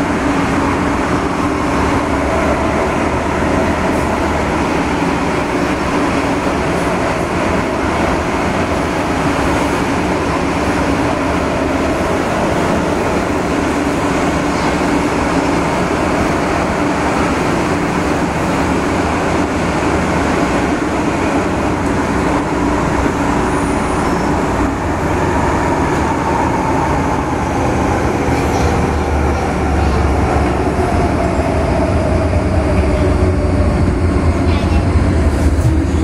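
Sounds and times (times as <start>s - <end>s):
train wheels rumbling: 0.0s - 36.0s.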